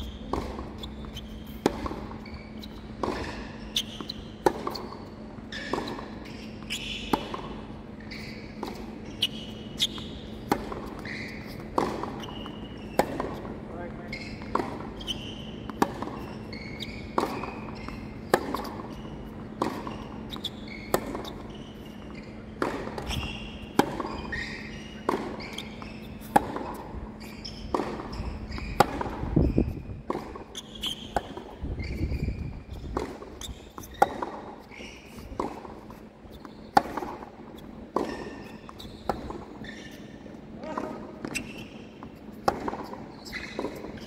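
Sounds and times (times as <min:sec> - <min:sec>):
ball bouncing on court: 0:00.0 - 0:40.0, 0:40.6 - 0:44.0
tennis ball hitting racquet: 0:00.0 - 0:44.0.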